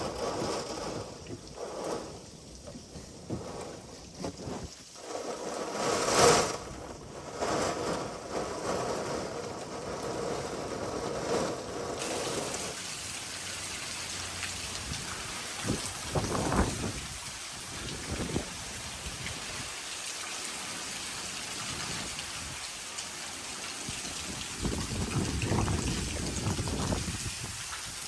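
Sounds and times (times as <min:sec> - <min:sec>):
heavy rain downpour: 0:00.0 - 0:28.0.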